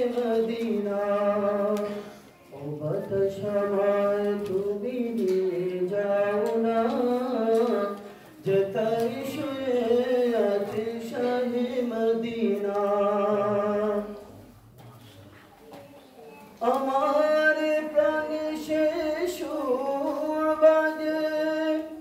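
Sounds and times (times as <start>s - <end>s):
person chanting a recitation: 0.0s - 14.4s, 16.6s - 22.0s.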